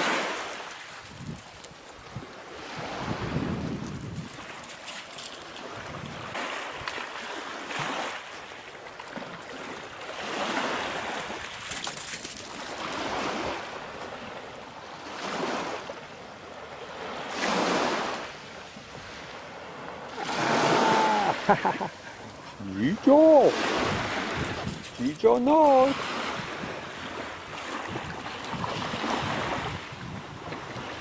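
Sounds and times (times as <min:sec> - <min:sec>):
small waves washing on shore: 0:00.0 - 0:31.0.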